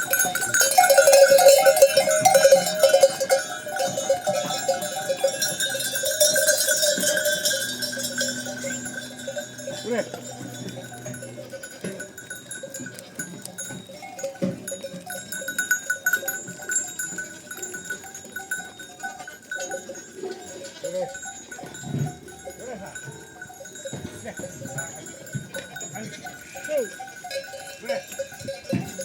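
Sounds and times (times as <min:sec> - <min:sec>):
neck bells ringing: 0:00.0 - 0:29.0.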